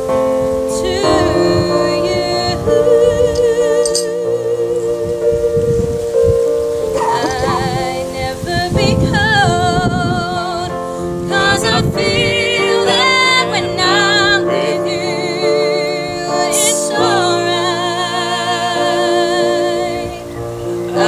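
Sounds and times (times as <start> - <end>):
sustained instrumental accompaniment: 0.0 - 21.0
woman singing slow song: 0.7 - 6.1, 6.8 - 21.0.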